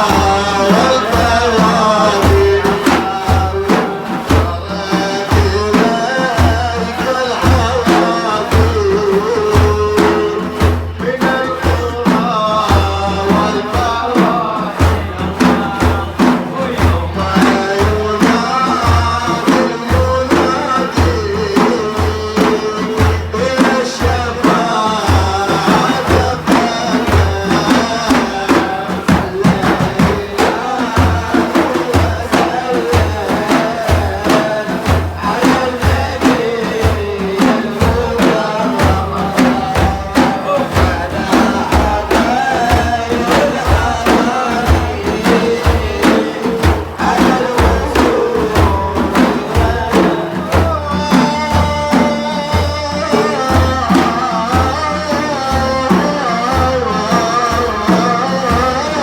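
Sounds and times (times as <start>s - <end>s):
heavy drum strikes: 0.0s - 59.0s.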